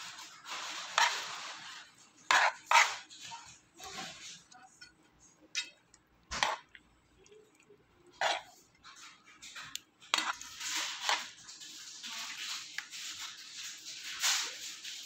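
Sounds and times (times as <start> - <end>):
scraping and rustling in pan: 0.0 - 6.8, 7.5 - 15.0.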